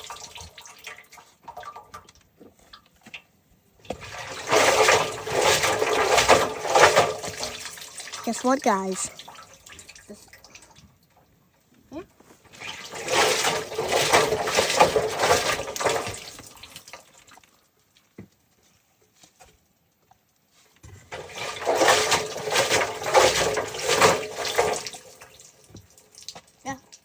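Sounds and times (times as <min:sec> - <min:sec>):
water sloshing in washing machine: 0:00.0 - 0:11.5, 0:12.4 - 0:18.1, 0:20.8 - 0:27.0.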